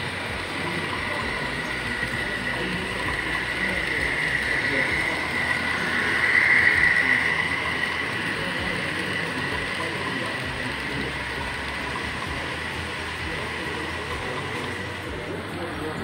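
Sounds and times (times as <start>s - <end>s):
model train wheels rumbling on track: 0.0s - 16.0s
motor whine: 0.0s - 16.0s.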